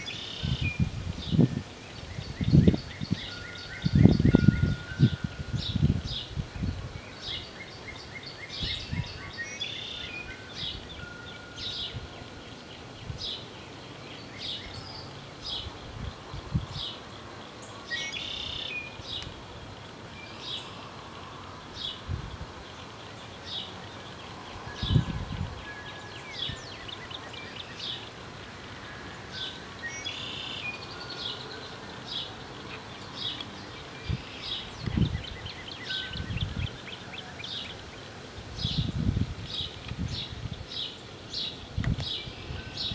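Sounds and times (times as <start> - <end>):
bird chirping: 0.0 - 42.9
longer bird calls: 0.0 - 42.9
outdoor background: 0.0 - 42.9.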